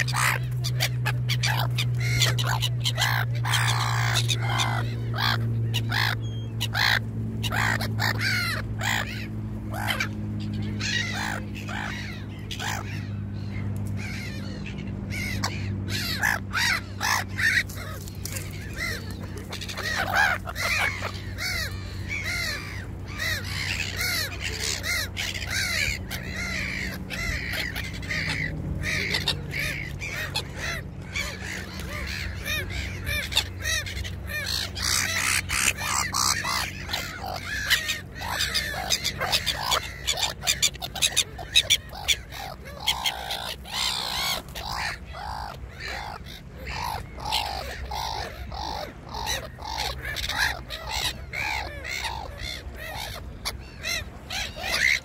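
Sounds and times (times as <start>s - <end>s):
birds calling: 0.0s - 55.0s
steady low hum: 0.0s - 55.0s.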